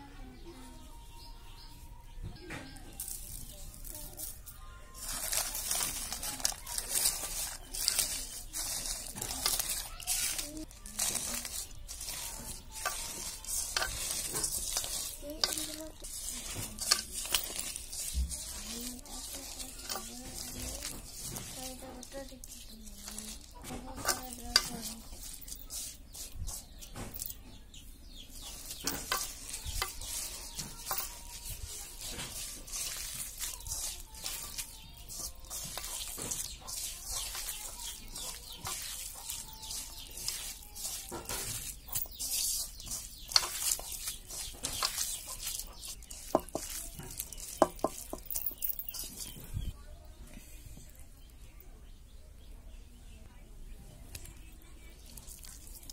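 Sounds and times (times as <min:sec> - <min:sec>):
hand squishing onions: 0:02.7 - 0:50.2, 0:54.0 - 0:55.9
fried chillies crackling crunch: 0:02.8 - 0:27.4, 0:28.3 - 0:49.4, 0:54.1 - 0:55.9.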